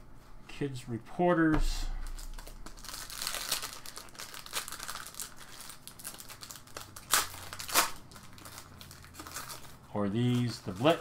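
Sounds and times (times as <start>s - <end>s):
foil wrapper crinkling: 2.0s - 11.0s.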